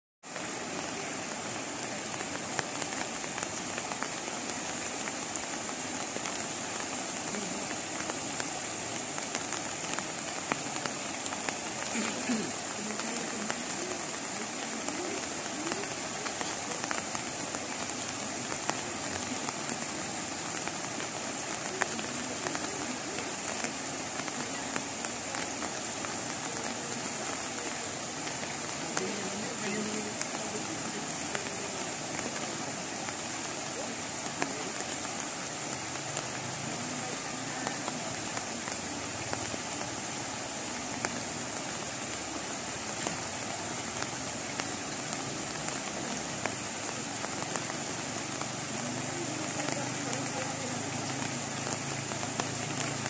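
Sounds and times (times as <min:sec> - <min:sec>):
water rushing across road: 0:00.2 - 0:53.0
faint voices: 0:00.3 - 0:53.0.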